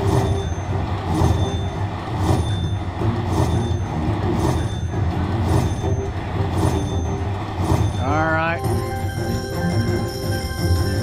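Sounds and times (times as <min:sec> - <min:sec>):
slot machine sound effects: 0:00.0 - 0:11.0.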